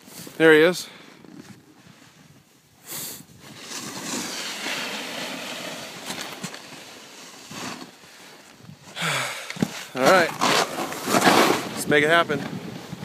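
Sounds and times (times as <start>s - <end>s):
snowboards scraping over snow: 1.4s - 9.0s, 9.6s - 13.0s.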